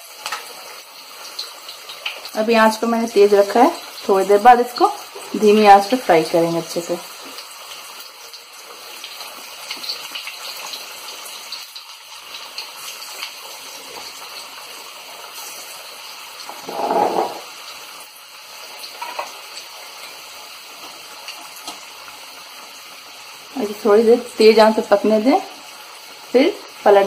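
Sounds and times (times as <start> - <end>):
batter sizzling in hot oil: 0.0 - 27.0.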